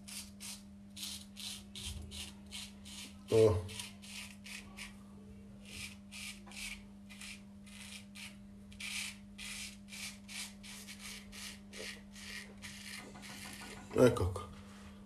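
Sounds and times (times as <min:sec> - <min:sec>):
razor scraping stubble: 0:00.0 - 0:05.0, 0:05.6 - 0:14.2.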